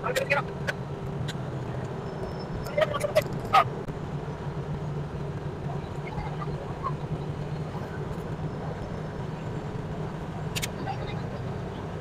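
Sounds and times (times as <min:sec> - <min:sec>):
vehicle motor hum: 0:00.0 - 0:12.0.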